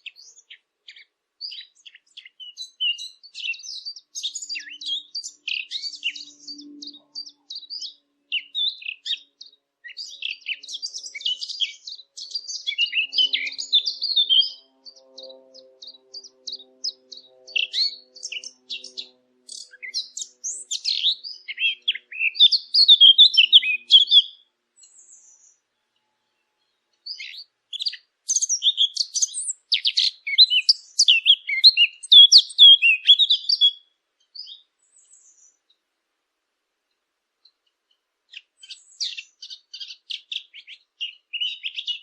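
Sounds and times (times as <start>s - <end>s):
songbirds twittering and chirping: 0.0s - 42.0s.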